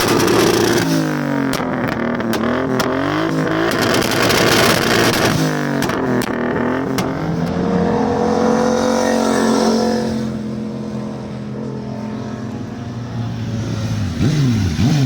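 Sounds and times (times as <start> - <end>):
exhaust cracks: 0.0 - 15.0
motorcycle engine revving: 0.0 - 15.0.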